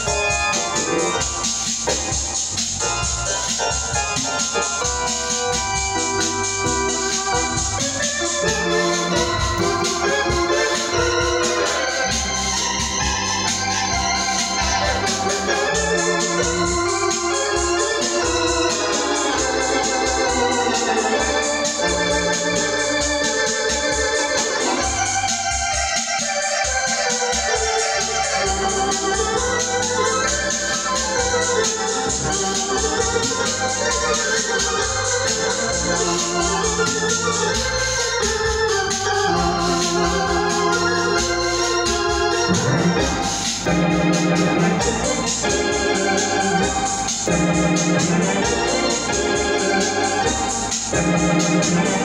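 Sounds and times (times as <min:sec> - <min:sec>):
organ playing chords and melody: 0:00.0 - 0:52.0.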